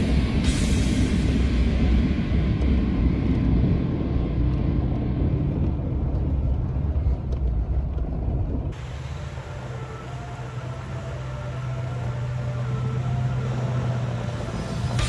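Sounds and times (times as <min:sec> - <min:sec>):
truck engine and tyres rumbling: 0:00.0 - 0:15.0.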